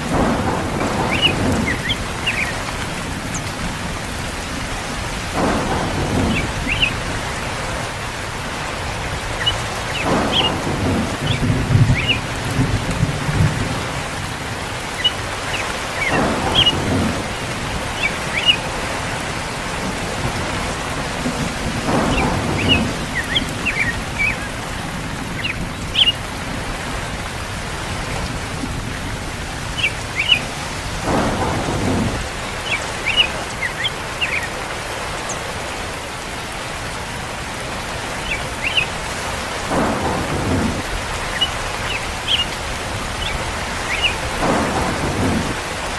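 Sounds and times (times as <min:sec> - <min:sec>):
steady rain falling: 0:00.0 - 0:45.9
thunder rumbles: 0:00.0 - 0:45.9.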